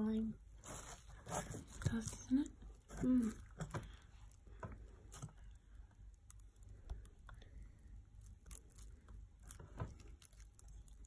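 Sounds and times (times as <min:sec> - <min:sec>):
slime squelching and clicking: 0:01.8 - 0:11.0.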